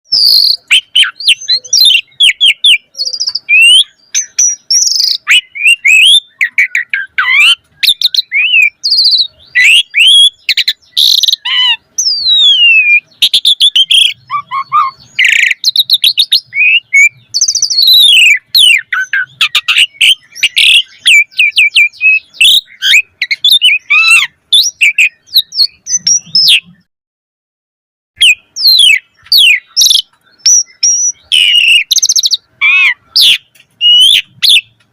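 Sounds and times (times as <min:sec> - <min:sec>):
starling singing: 0:00.1 - 0:26.9, 0:28.2 - 0:34.9.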